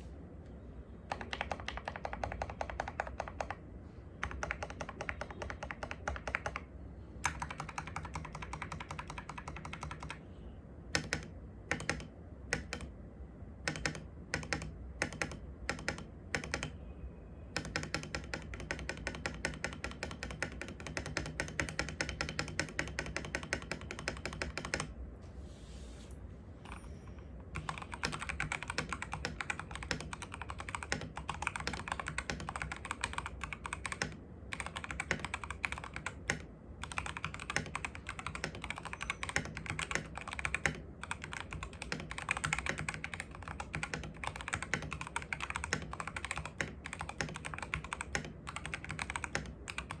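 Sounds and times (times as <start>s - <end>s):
mechanical keyboard typing: 1.1s - 3.6s, 4.2s - 10.2s, 10.9s - 13.0s, 13.6s - 16.8s, 17.6s - 24.9s, 26.6s - 50.0s.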